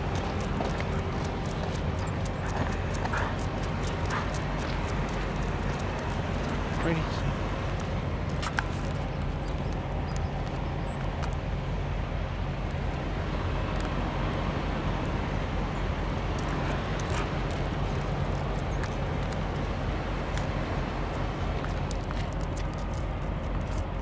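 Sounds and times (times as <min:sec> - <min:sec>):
vehicle engines droning: 0:00.0 - 0:24.0.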